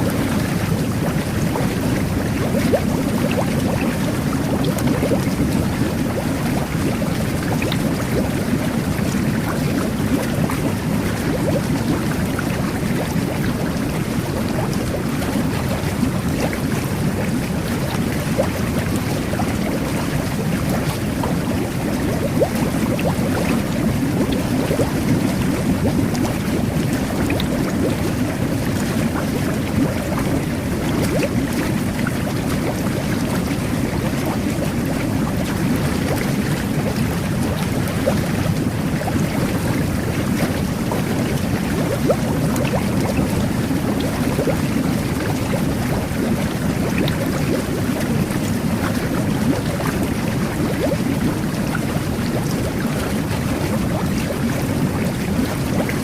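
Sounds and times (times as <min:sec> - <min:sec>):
air bubbles gurgling and popping: 0:00.0 - 0:56.0
water churning: 0:00.0 - 0:56.0.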